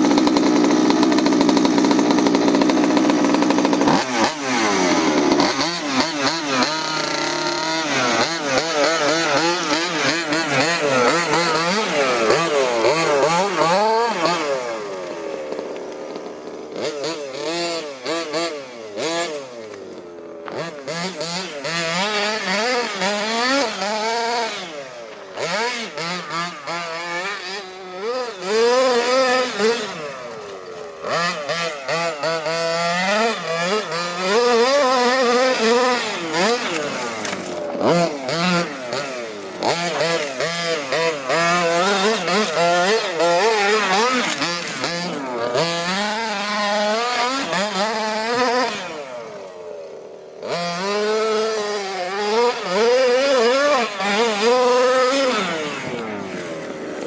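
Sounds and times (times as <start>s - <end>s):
rc car engine revving: 0.0s - 57.0s.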